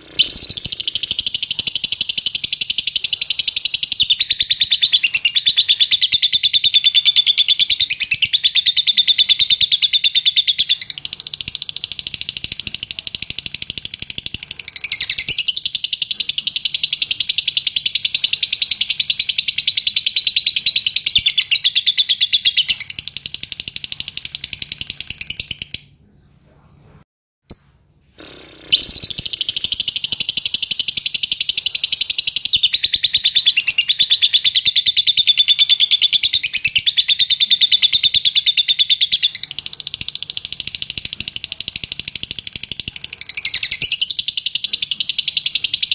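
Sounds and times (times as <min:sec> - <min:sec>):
lovebird chattering song: 0:00.0 - 0:25.9, 0:28.7 - 0:45.9.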